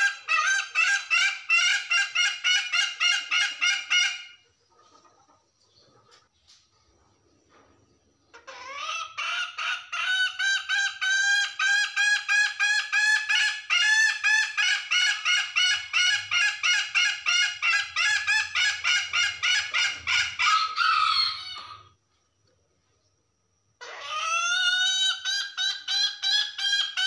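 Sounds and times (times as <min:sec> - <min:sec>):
hen cackling: 0:00.0 - 0:06.2, 0:08.3 - 0:22.0, 0:23.8 - 0:27.0.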